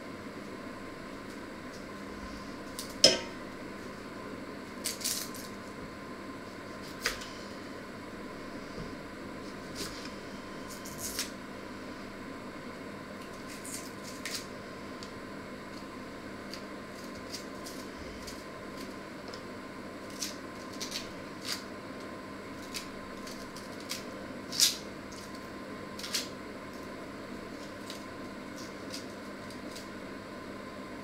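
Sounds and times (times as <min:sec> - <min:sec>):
steady electrical hum: 0:00.0 - 0:31.0.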